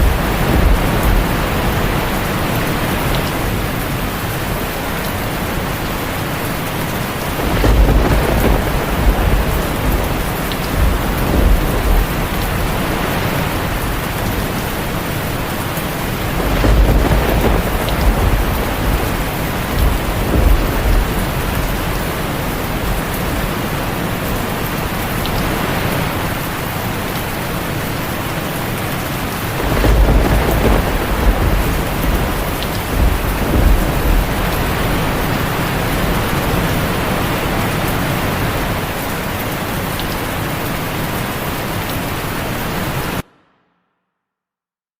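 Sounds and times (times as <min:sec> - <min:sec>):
thunder rumbling: 0:00.0 - 0:27.4, 0:28.1 - 0:40.6
heavy rain: 0:00.0 - 0:43.4.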